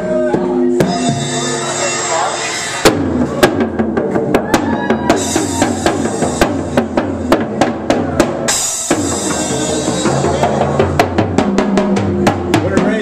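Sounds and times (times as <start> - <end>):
drum strokes: 0.0 - 13.0.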